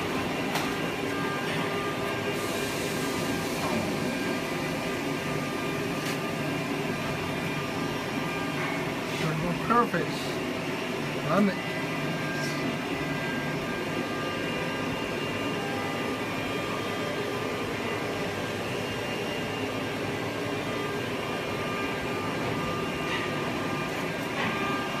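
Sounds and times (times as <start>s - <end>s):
laser cutting machine humming: 0.0s - 25.0s.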